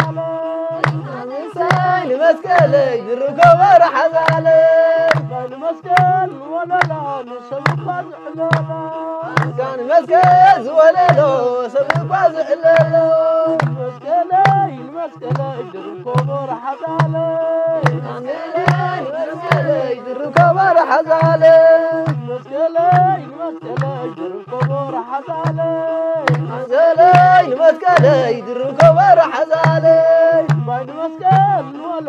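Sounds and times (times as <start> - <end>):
drum beat: 0.0 - 32.0.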